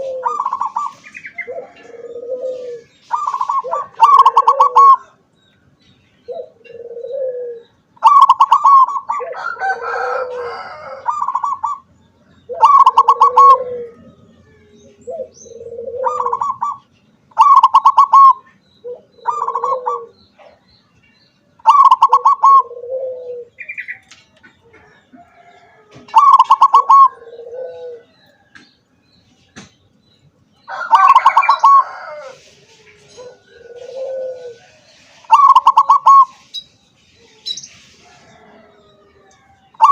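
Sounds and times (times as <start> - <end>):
dove cooing: 0.0 - 5.2, 6.3 - 20.6, 21.6 - 28.5, 30.7 - 36.5, 37.2 - 39.9.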